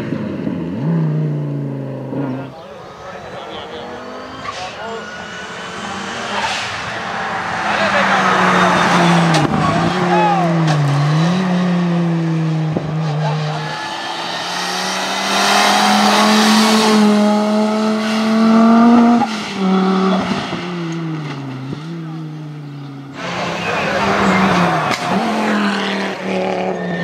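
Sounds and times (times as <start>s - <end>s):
rally car engine at full throttle: 0.0s - 27.0s.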